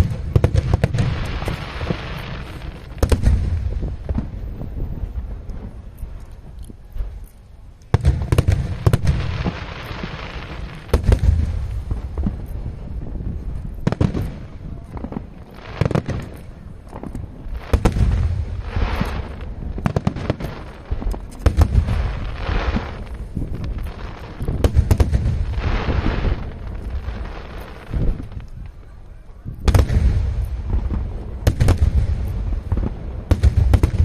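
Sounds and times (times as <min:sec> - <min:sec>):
firework booms: 0:00.0 - 0:06.0, 0:07.9 - 0:34.0
sharp firework pops: 0:00.0 - 0:07.2, 0:07.8 - 0:34.0
firework crackling: 0:00.0 - 0:34.0.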